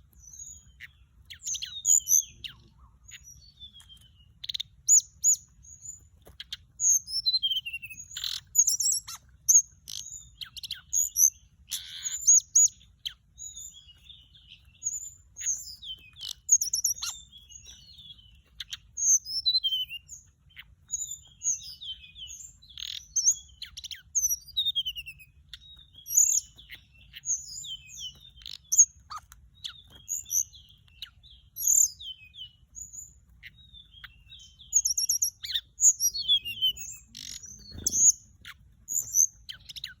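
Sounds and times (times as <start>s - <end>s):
bird song of falling notes: 3.3s - 40.0s.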